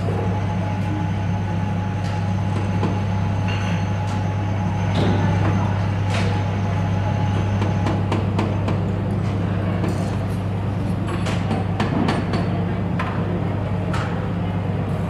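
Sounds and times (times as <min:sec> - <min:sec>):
machinery low hum: 0:00.0 - 0:15.0.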